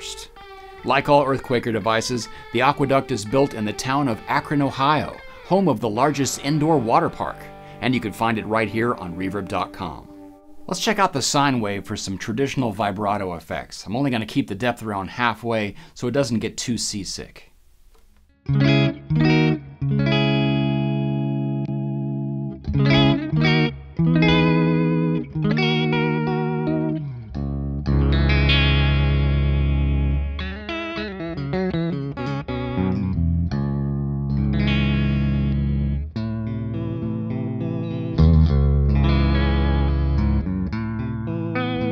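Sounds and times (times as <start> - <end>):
electric guitar with vibrato: 0.0 - 12.2, 18.3 - 41.9.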